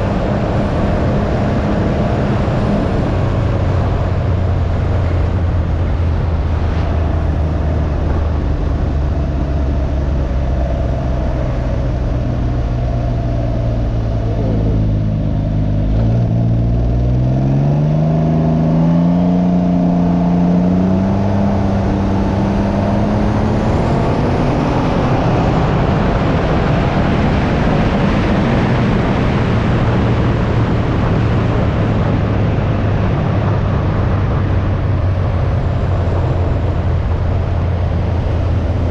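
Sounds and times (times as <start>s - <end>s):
three-cylinder engine accelerating: 0.0s - 38.9s
wind rush: 0.0s - 38.9s.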